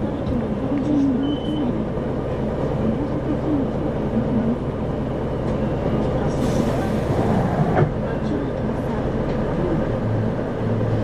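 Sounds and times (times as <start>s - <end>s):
diesel bus engine rumble: 0.0s - 11.0s.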